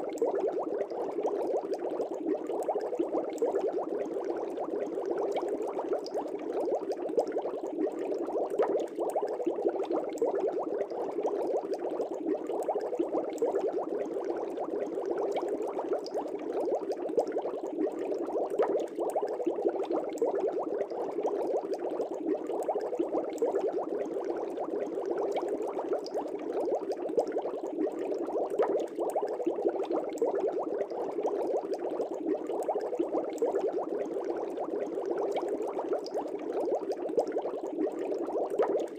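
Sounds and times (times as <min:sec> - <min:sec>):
aquarium air bubbling: 0:00.0 - 0:38.9.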